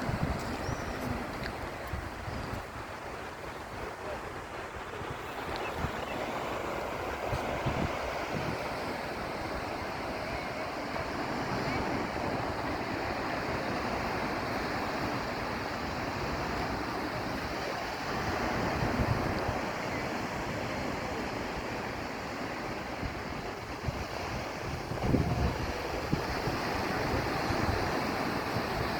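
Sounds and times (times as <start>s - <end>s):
wind buffeting microphone: 0.0s - 19.8s, 22.9s - 28.9s
sea surf washing onto beach: 0.0s - 28.9s.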